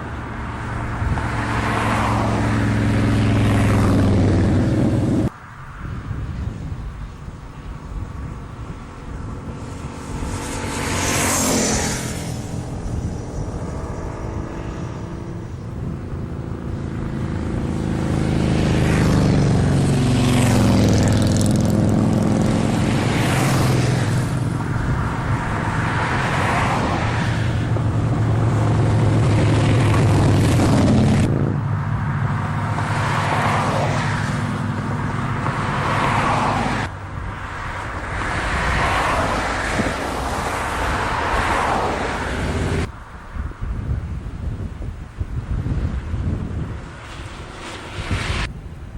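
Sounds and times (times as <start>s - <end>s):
motorcycles passing by: 0.0s - 48.9s.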